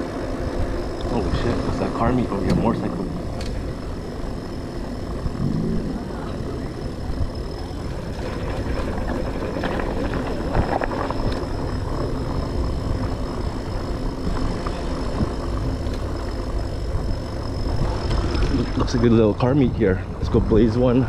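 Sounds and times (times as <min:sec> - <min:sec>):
faint high whine: 0:00.0 - 0:21.0
wind buffeting microphone: 0:00.0 - 0:21.0.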